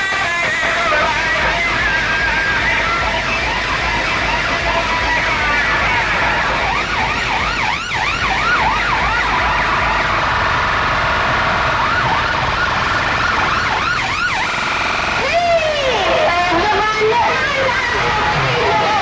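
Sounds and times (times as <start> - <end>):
heavy low bass hum: 0.6 - 18.9
siren sound effect whooping: 0.6 - 19.0.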